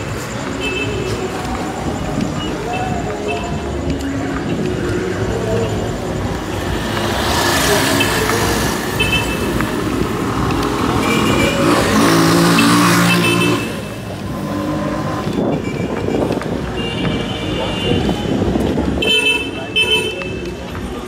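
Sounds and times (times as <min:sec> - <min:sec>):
vehicles passing close by: 0:00.0 - 0:21.0.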